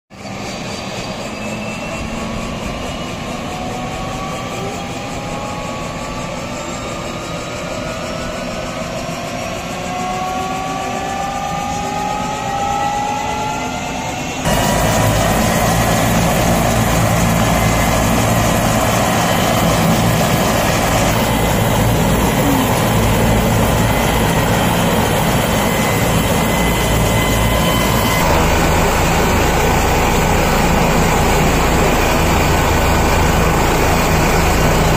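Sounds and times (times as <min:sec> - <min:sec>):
helicopter engine whine: 0:00.1 - 0:34.9
helicopter rotor and engine noise: 0:00.1 - 0:34.9.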